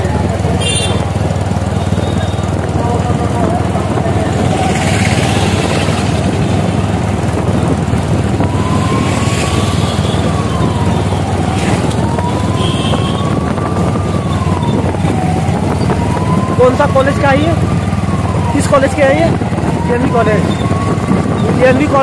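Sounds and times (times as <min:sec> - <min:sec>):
vehicle noise: 0:00.0 - 0:22.0
siren wailing: 0:01.4 - 0:22.0.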